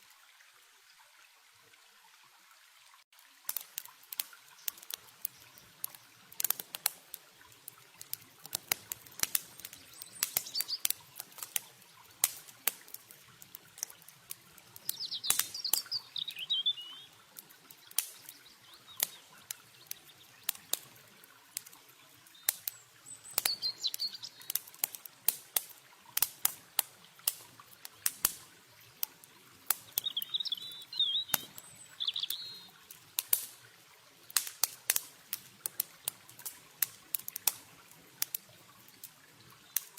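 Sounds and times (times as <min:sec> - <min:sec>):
campfire crackling and popping: 0:03.1 - 0:39.9.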